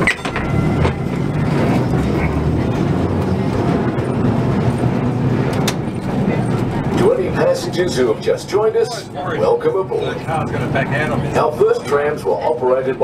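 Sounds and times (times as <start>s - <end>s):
tram motors humming: 0.0s - 13.0s.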